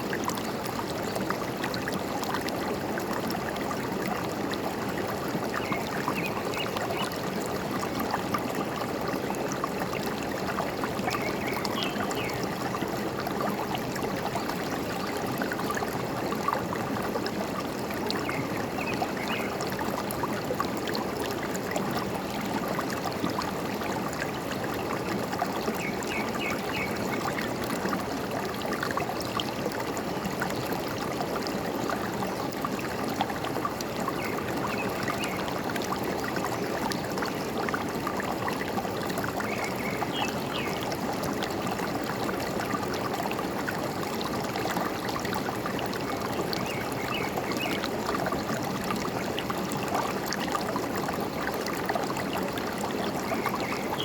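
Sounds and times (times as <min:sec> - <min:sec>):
stream trickling and gurgling: 0:00.0 - 0:54.0.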